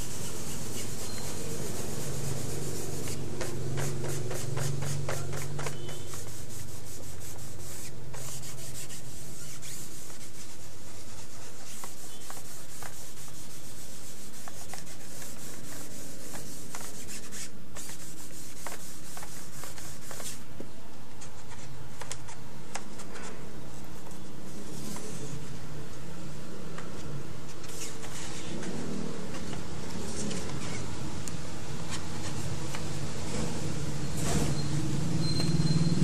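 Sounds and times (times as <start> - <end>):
rubbing and scratching handling noise: 0.0 - 25.6, 26.8 - 31.0.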